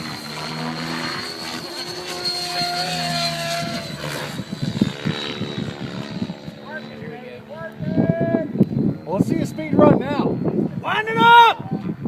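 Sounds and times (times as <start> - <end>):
rc helicopter motor whine: 0.0 - 11.2
rotor blades humming: 0.0 - 11.2.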